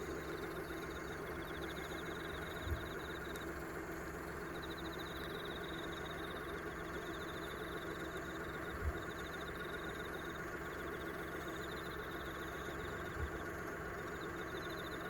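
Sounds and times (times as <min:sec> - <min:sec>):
insects chirping in trills: 0:00.0 - 0:15.0
steady low hum: 0:00.0 - 0:15.0.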